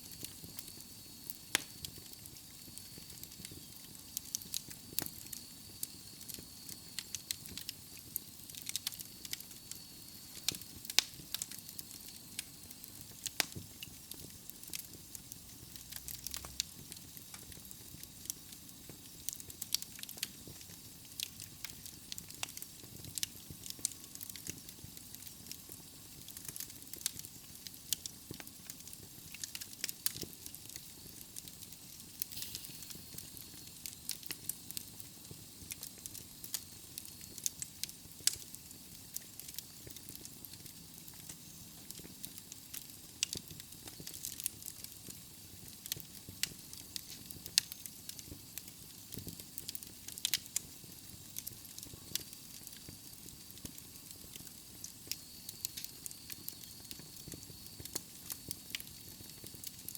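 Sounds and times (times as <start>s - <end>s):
logs crackling in a fireplace: 0.0s - 59.9s.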